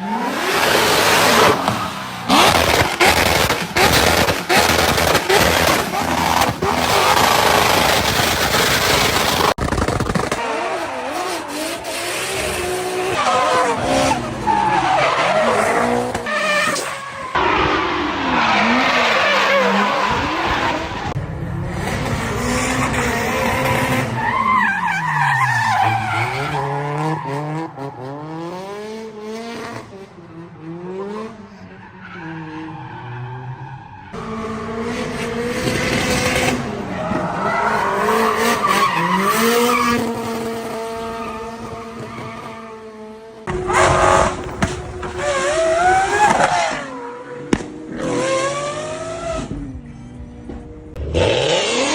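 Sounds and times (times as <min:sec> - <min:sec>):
tyres skidding and squealing: 0:00.0 - 0:28.8, 0:30.6 - 0:51.9
car engines revving: 0:00.0 - 0:51.9.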